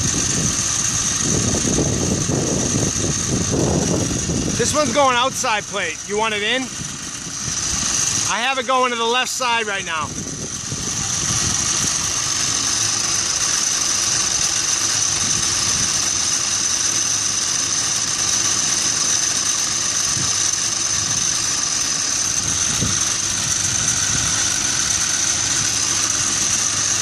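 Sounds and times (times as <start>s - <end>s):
high-pitched whine: 0.0s - 27.0s.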